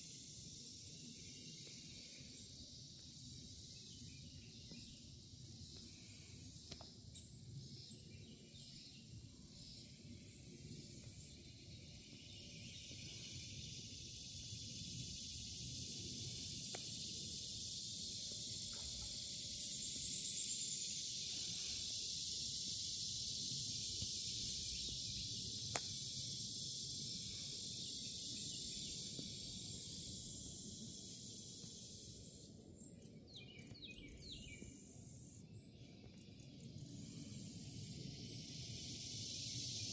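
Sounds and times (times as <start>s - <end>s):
chorus of chirring insects: 0.0s - 39.9s
high pulsing insect buzz: 0.0s - 39.9s.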